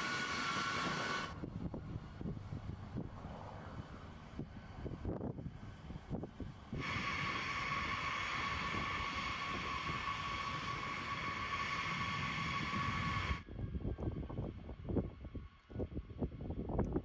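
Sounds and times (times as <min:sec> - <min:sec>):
jet engine whine: 0:00.0 - 0:17.0
low engine rumble: 0:00.0 - 0:17.0.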